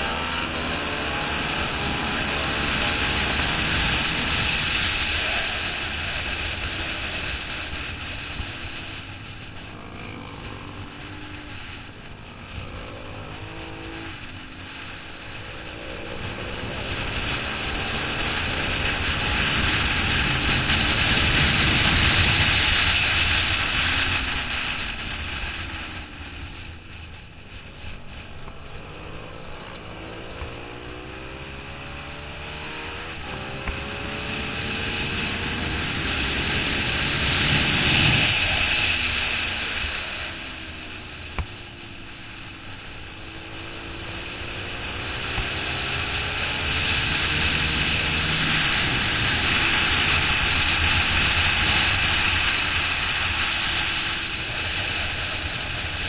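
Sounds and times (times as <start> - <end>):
motorcycle engine at speed: 0.0 - 56.0
wind rush: 0.0 - 56.0.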